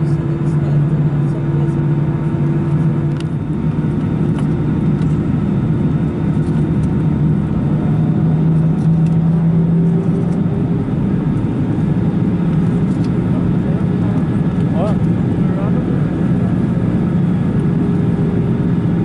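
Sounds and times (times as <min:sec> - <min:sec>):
jet engine cabin hum: 0:00.0 - 0:19.0.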